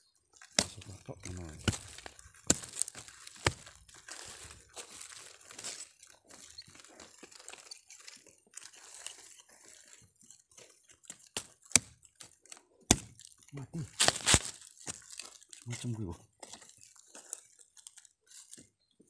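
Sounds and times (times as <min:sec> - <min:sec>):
hand scraping dry soil: 0:00.3 - 0:18.8.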